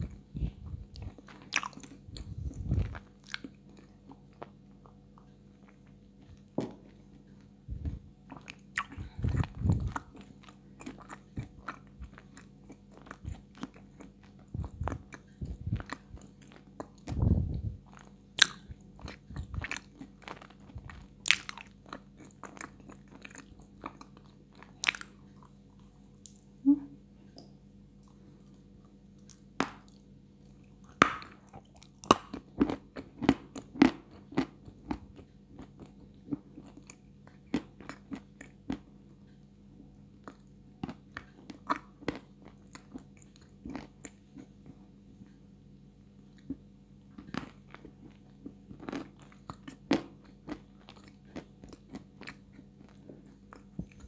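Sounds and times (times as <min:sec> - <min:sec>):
crunchy chewing of clay: 0:00.0 - 0:26.4, 0:28.0 - 0:45.4, 0:46.2 - 0:54.0.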